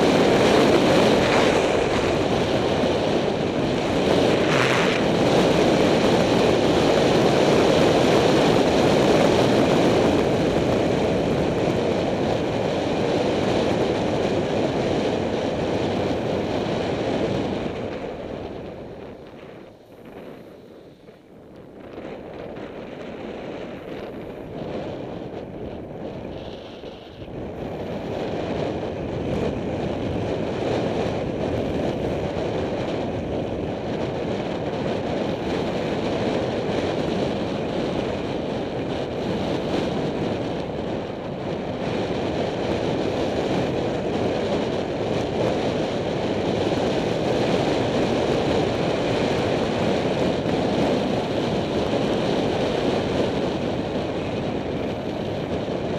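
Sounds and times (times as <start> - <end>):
wind roaring over microphone: 0.0 - 55.9.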